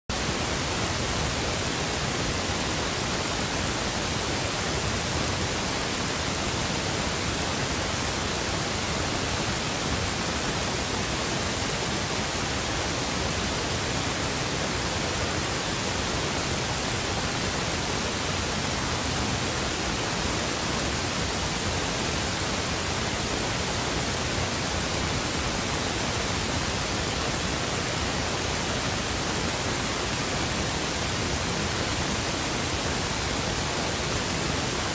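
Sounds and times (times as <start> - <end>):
steady static hiss: 0.1 - 34.9.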